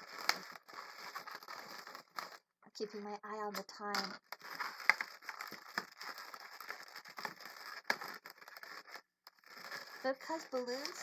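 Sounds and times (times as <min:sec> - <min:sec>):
balloons rubbing and crackling: 0:00.0 - 0:11.0.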